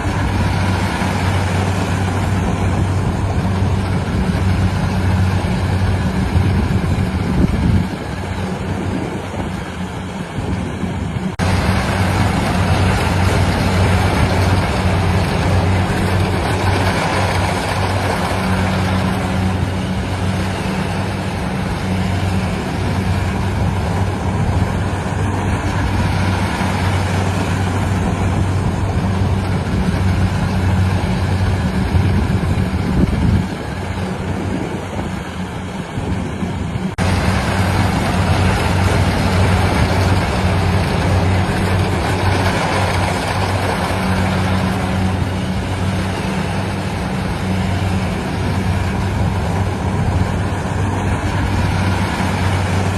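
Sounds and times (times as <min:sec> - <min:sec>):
harvester engine humming: 0:00.0 - 0:52.9.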